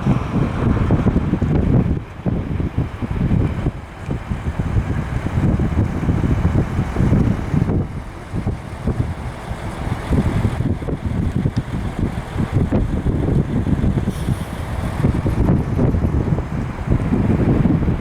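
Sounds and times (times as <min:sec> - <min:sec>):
freight train rumble: 0:00.0 - 0:18.0
wind buffeting microphone: 0:00.0 - 0:18.0.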